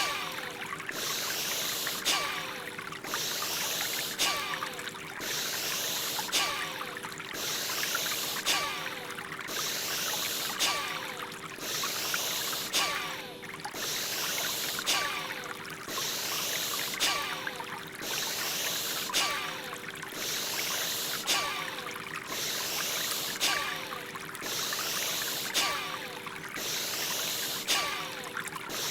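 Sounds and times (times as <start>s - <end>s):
forceful breathing in and out: 0.0s - 28.9s
running water: 0.0s - 28.9s.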